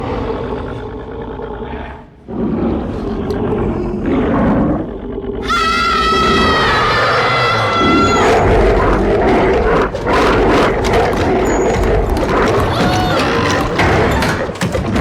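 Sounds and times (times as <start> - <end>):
creature growling and roaring: 0.0 - 15.0.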